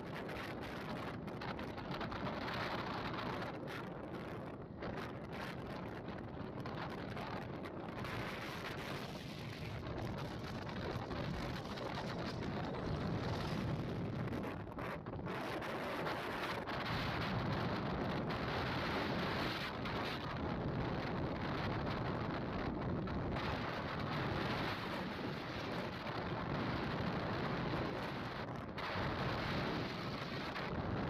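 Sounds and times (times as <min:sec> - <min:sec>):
motorcycle engine and road noise: 0:00.0 - 0:31.0
wind on microphone: 0:00.0 - 0:31.0.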